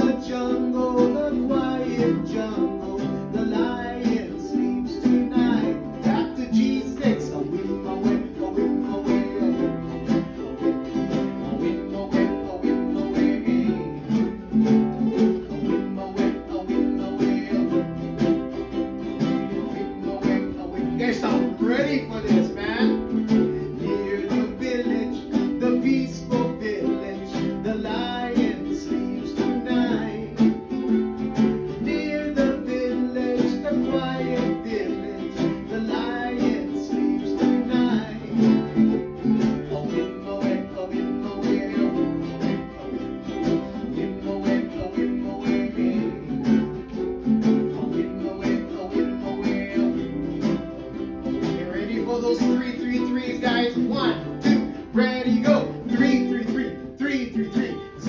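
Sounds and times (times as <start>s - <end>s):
person singing: 0.0s - 58.0s
upbeat music with plucked guitar: 0.0s - 58.0s.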